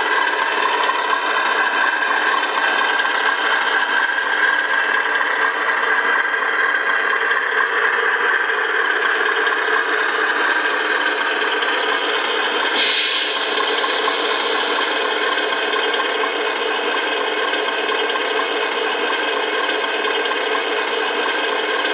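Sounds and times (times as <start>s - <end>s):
model truck mechanical hum: 0.0s - 21.9s.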